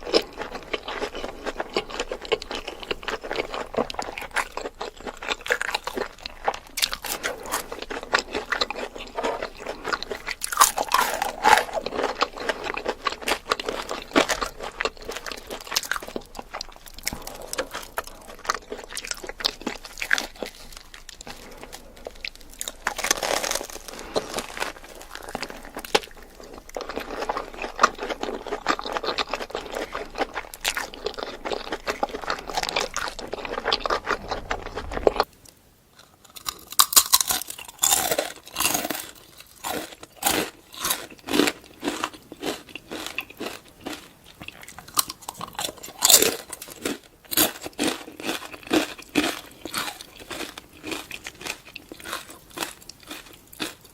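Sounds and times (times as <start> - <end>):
person crunching food: 0.0 - 35.3, 36.0 - 53.9.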